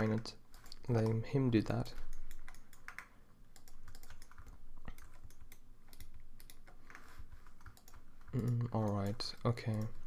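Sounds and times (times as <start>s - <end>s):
keyboard and mouse clicking: 0.0s - 10.0s.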